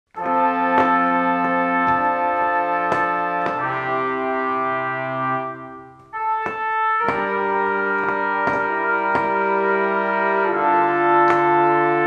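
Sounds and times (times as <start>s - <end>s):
regular sharp hits: 0.1s - 5.0s, 5.9s - 12.0s
held brass chords: 0.1s - 12.0s.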